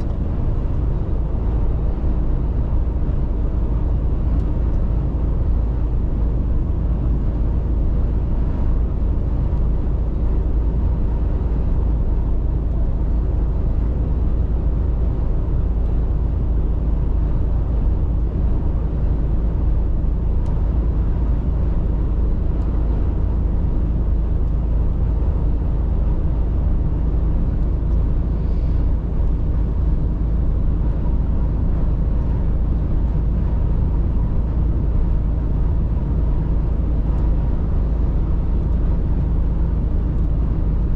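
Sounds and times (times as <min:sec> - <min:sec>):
truck engine and road noise: 0:00.0 - 0:40.9.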